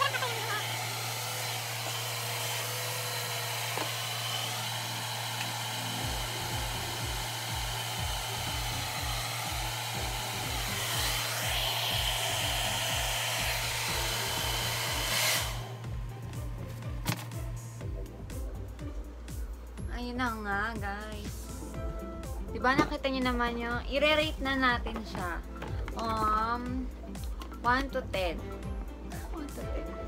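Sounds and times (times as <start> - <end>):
hair dryer running: 0.0 - 20.5, 21.2 - 30.0.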